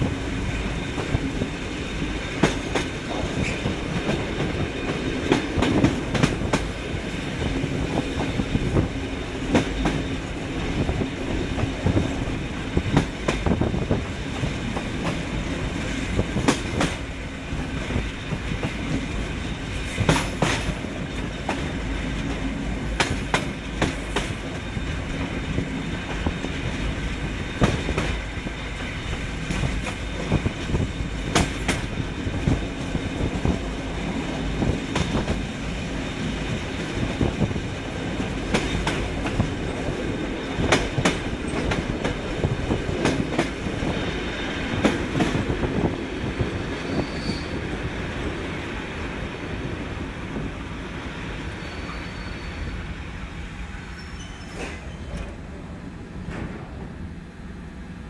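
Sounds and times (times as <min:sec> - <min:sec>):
wheels clacking over rail joints: 0:00.0 - 0:12.2, 0:12.8 - 0:47.4
train rumbling: 0:00.0 - 0:58.0.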